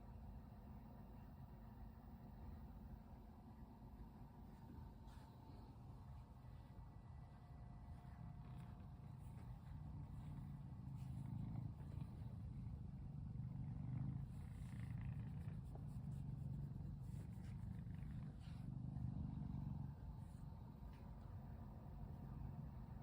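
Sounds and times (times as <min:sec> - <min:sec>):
cat purring: 0:00.3 - 0:23.0.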